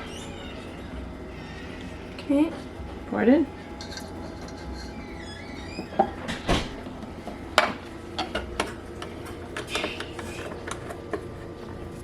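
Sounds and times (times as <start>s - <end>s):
faint steady hum: 0.0s - 12.0s
kitchen utensils and dishes clinking: 1.6s - 12.0s.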